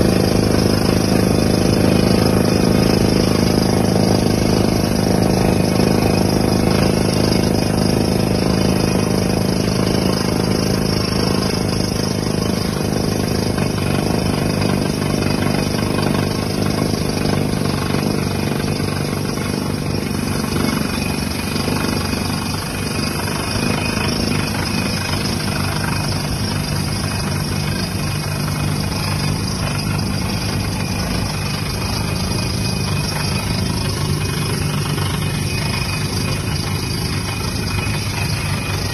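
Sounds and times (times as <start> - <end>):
drilling rig engine droning: 0.0 - 38.9.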